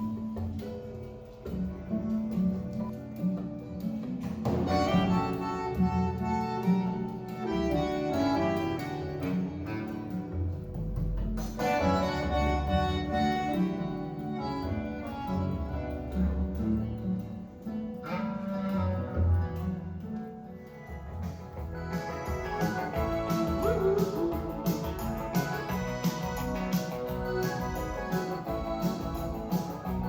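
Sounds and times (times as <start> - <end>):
instrumental music with bass line: 0.0 - 30.0.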